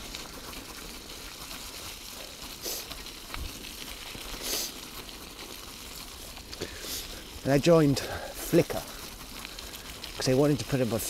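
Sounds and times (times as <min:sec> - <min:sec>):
bicycle tyres rolling: 0:00.0 - 0:11.0.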